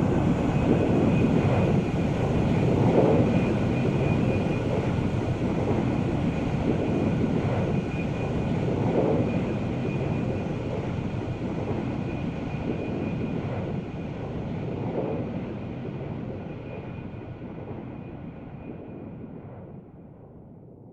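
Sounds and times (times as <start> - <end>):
airplane engine rumble and whine: 0.0 - 20.6.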